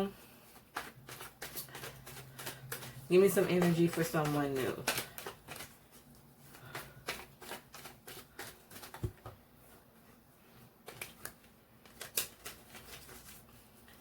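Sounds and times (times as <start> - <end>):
cards being shuffled: 0.4 - 9.4, 10.8 - 14.0.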